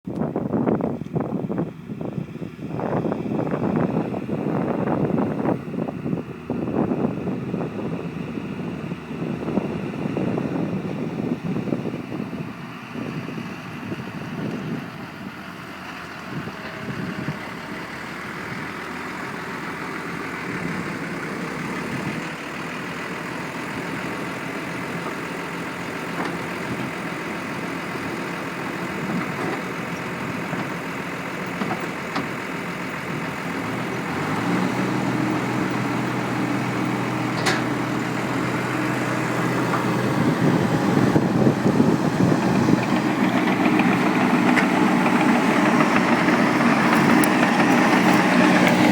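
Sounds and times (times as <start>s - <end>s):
farm machinery diesel engine: 0.0s - 48.9s.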